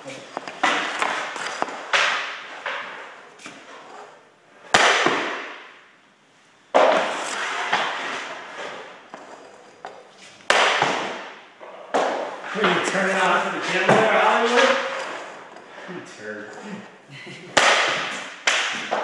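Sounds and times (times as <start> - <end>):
hockey pucks striking pads and boards: 0.0 - 6.0, 6.7 - 16.6, 17.4 - 19.0.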